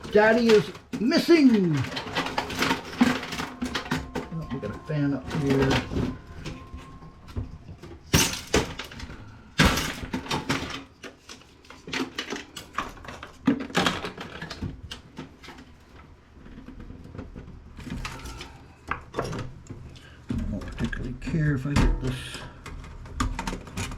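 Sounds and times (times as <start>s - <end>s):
computer parts being pried apart: 0.0s - 19.6s, 21.7s - 23.9s.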